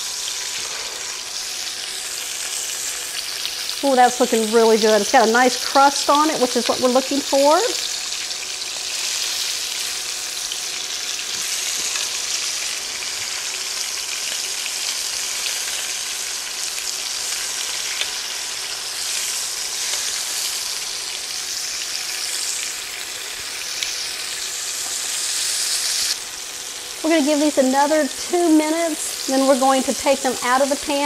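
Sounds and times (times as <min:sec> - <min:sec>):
meat sizzling in oil: 0:00.0 - 0:31.0.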